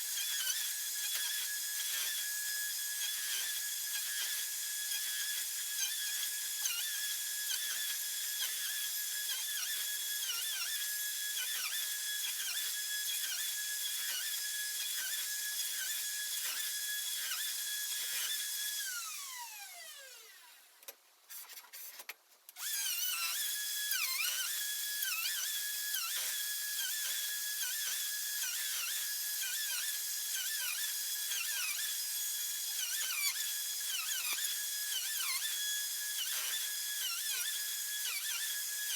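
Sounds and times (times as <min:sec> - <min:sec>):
router high whine: 0:00.3 - 0:20.7, 0:22.6 - 0:38.9.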